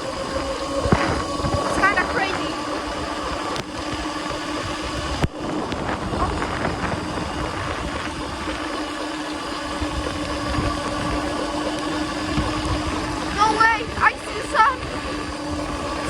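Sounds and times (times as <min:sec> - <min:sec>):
constant rushing noise: 0:00.0 - 0:16.0
electric bike motor whining: 0:00.0 - 0:16.0.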